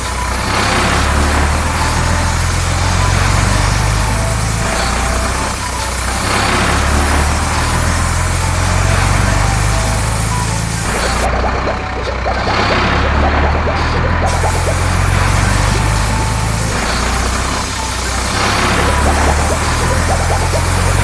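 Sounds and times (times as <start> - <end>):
cartoon engine hum: 0.0 - 21.0
short high notes: 0.0 - 21.0.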